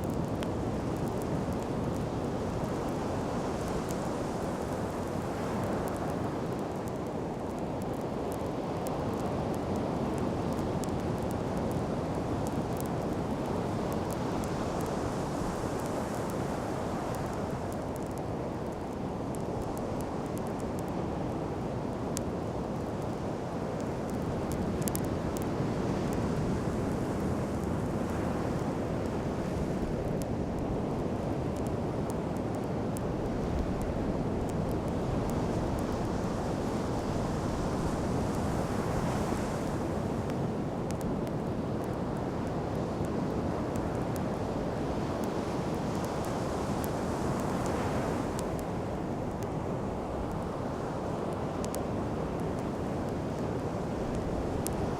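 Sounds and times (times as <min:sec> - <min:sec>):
bonfire crackling and popping: 0:00.0 - 0:54.9
wind: 0:00.0 - 0:54.9.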